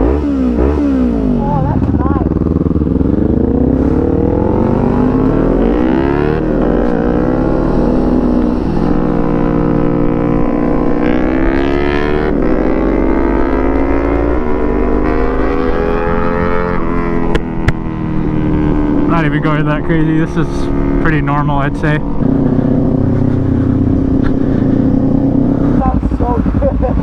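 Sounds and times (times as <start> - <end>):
motorcycle accelerating through gears: 0.0 - 27.0.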